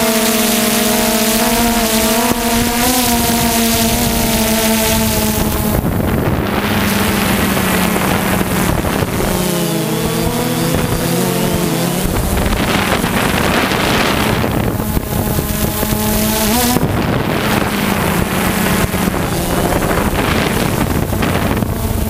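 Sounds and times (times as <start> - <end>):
drone propellers whining: 0.0 - 22.0
wind rushing over microphone: 0.0 - 22.0.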